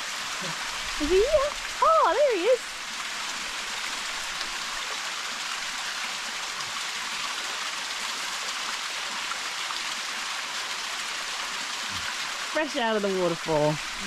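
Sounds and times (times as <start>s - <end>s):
waterfall and creek running: 0.0s - 14.0s.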